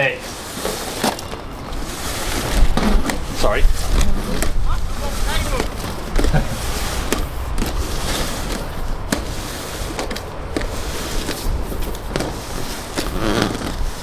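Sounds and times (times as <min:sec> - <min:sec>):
cable scraping plastic duct: 0:00.0 - 0:14.0
wind buffeting microphone: 0:01.5 - 0:14.0.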